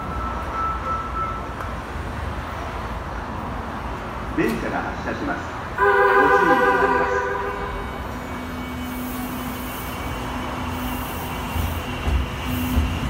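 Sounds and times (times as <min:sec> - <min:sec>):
subway train running noise: 0:00.0 - 0:13.0.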